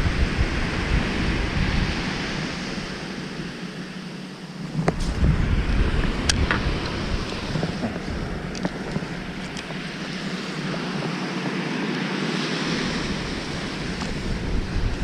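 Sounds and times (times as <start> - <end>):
surf washing onto a beach: 0.0 - 15.0
wind buffeting the microphone: 0.0 - 15.0.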